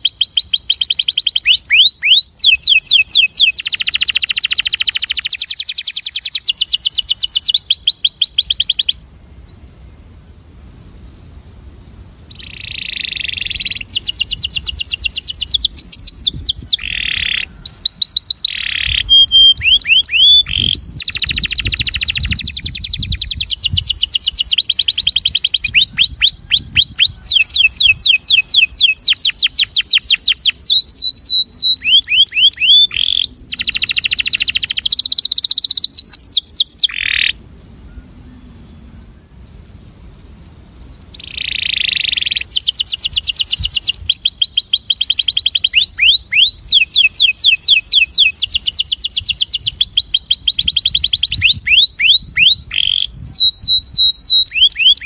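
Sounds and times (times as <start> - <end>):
canary singing trills: 0.0 - 10.0, 12.2 - 55.0.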